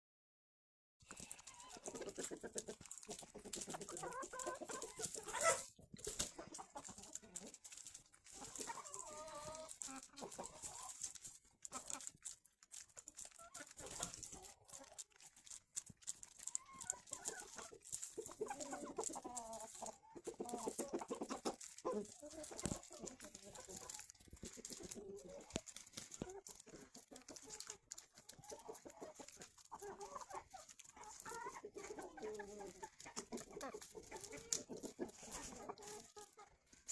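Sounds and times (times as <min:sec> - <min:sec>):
chickens clucking: 0:01.0 - 0:36.9
chickens pecking: 0:01.0 - 0:36.9.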